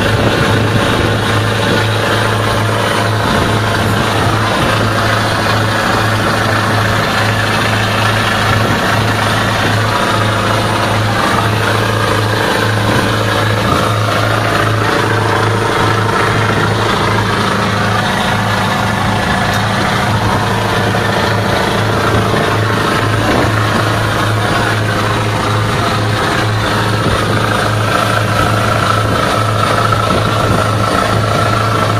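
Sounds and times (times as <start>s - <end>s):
boat engine humming: 0.0s - 31.9s
wind and water rushing: 0.0s - 31.9s.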